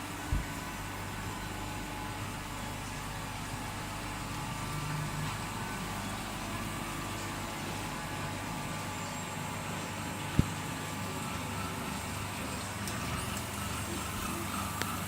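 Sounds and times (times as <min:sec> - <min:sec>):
knife grinder motor humming: 0:00.0 - 0:15.0.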